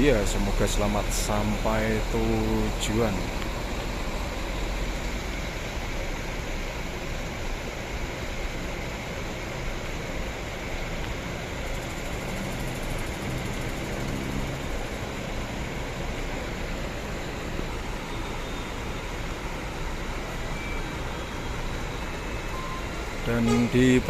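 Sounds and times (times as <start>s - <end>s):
diesel bus engine hum: 0.0s - 24.0s
road traffic noise: 0.0s - 24.0s.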